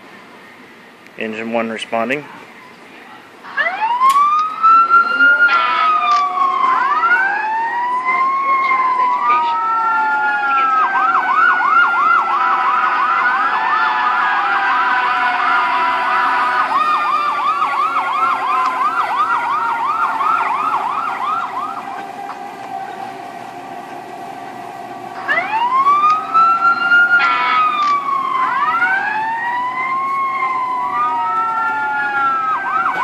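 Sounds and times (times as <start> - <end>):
fire truck siren from phone speaker: 3.5 - 33.0.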